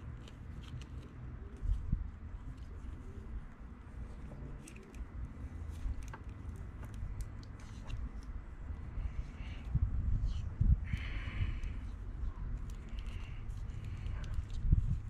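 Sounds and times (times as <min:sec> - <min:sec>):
tape and cable crackles: 0:00.0 - 0:15.0.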